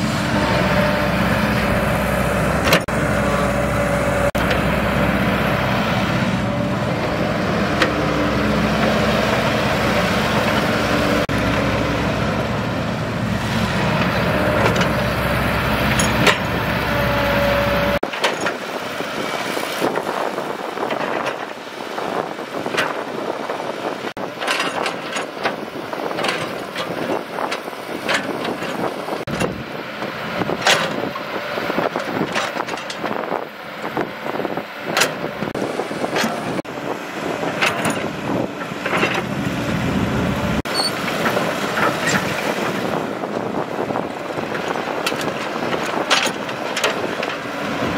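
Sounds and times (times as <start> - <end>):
diesel engines running: 0.0 - 47.9
excavator clanks and knocks: 0.3 - 5.1, 6.5 - 18.9, 19.8 - 23.2, 24.2 - 47.9.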